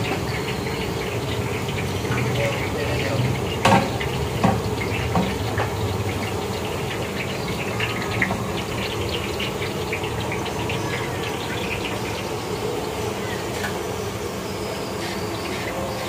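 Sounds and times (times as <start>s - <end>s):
oil crackling: 0.0s - 13.8s.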